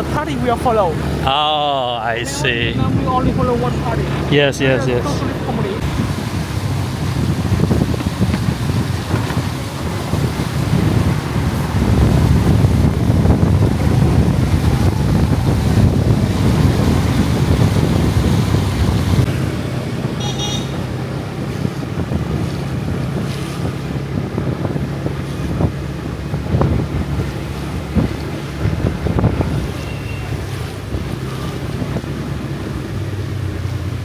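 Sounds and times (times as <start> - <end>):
street traffic rumble: 0.0 - 34.0
wind buffeting microphone: 0.0 - 34.0.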